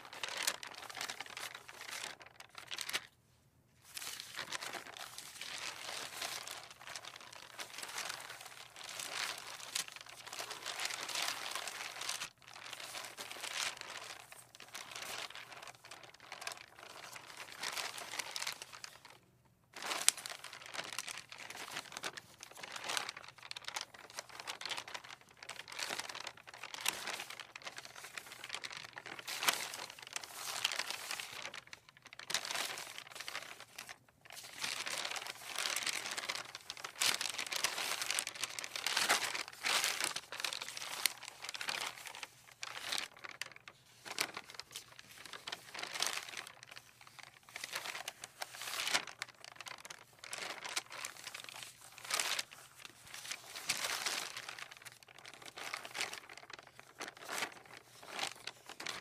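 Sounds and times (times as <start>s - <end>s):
paper rustling in wind: 0.0s - 3.2s, 3.8s - 59.0s.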